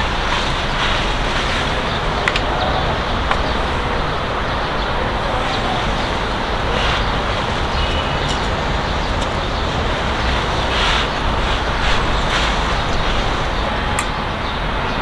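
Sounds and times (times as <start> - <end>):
distant city traffic: 0.0 - 15.0.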